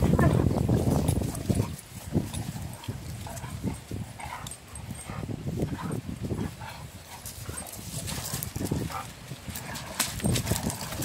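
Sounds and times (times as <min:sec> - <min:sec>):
rustling: 0:00.2 - 0:11.0.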